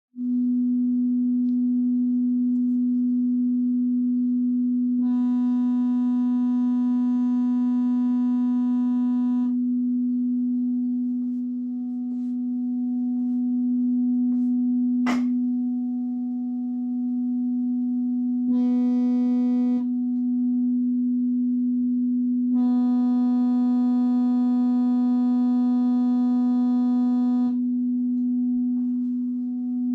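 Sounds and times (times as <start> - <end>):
buzzy speaker crackle: 0.2 - 29.9.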